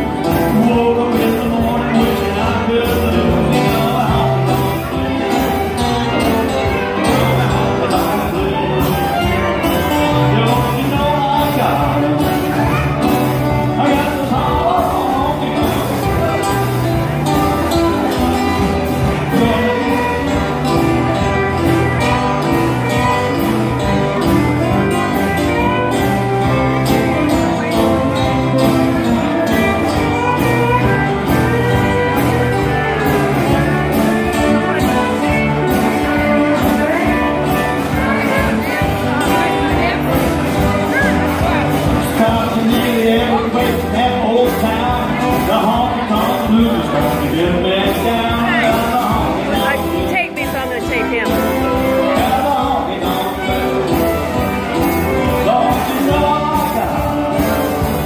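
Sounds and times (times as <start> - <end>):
acoustic guitar: 0.0 - 58.0
keyboard: 0.0 - 58.0
upright bass: 0.0 - 58.0.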